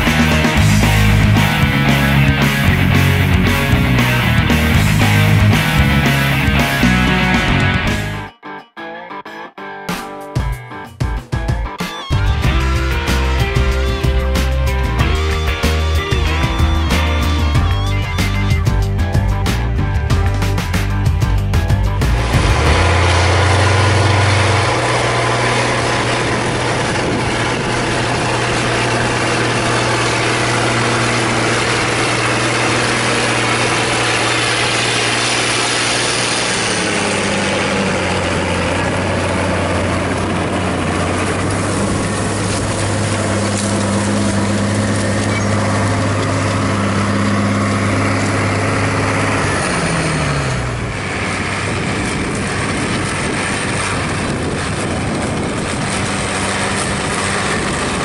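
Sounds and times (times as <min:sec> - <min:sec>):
tractor diesel engine under load: 0:00.0 - 0:08.3, 0:12.1 - 0:58.0.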